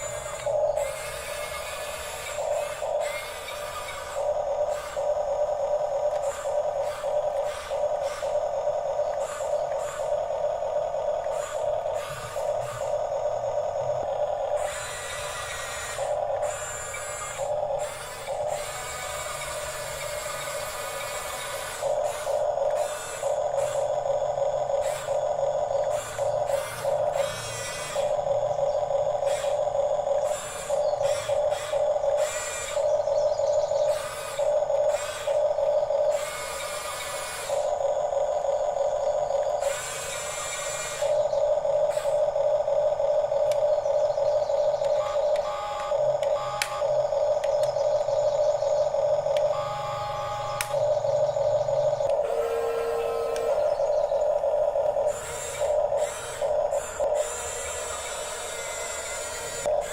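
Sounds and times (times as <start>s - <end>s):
electric motors whining: 0.0s - 59.9s.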